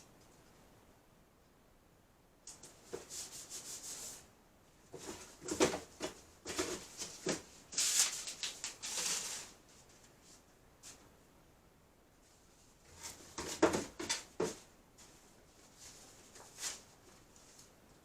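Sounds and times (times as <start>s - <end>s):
rustling: 2.5s - 11.1s, 12.2s - 18.0s.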